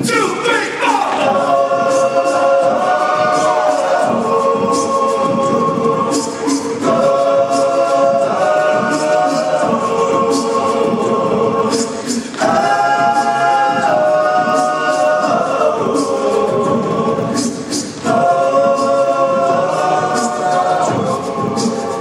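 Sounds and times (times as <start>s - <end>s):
male group singing in harmony: 0.0s - 22.0s.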